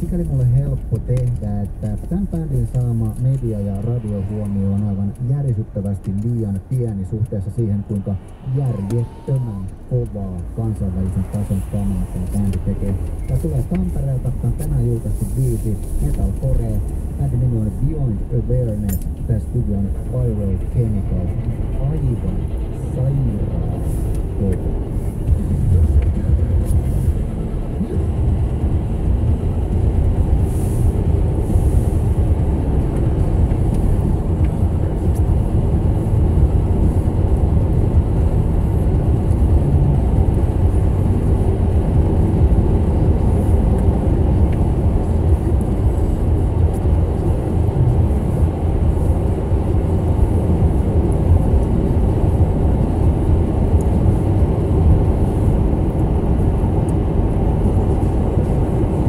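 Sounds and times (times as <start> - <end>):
road and tyre noise in car: 0.0 - 59.0.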